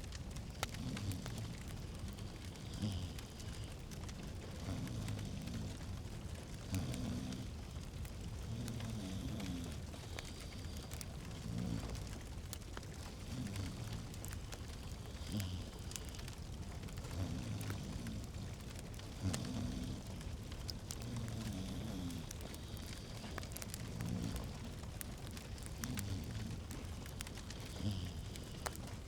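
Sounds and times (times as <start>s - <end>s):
log fire crackling and popping: 0.0s - 29.0s.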